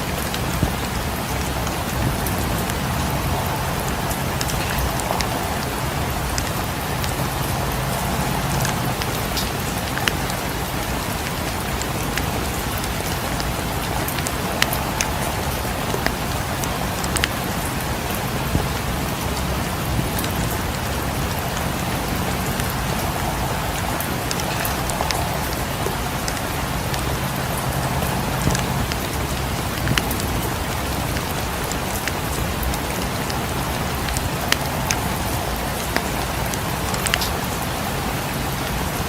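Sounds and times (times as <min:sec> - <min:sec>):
steady rain falling: 0:00.0 - 0:39.0
wood fire crackling: 0:00.0 - 0:39.0.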